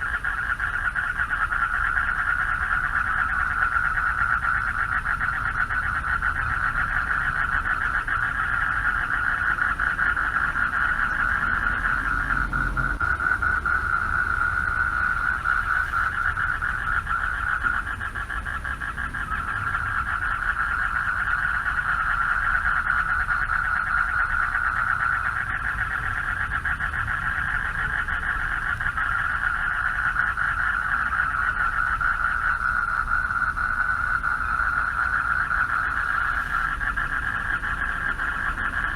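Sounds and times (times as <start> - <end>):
chorus of frogs trilling: 0.0 - 38.9.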